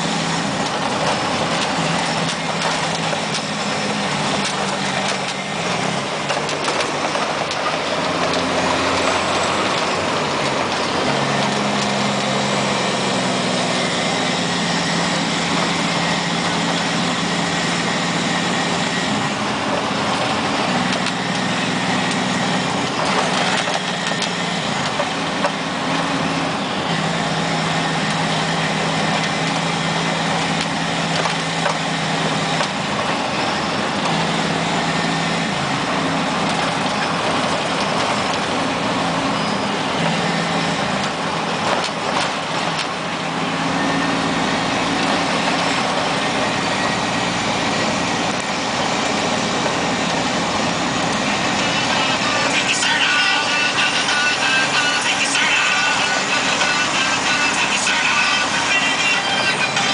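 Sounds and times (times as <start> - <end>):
tyres rumbling on gravel: 0.0 - 59.9
vehicle engine drone: 0.0 - 59.9.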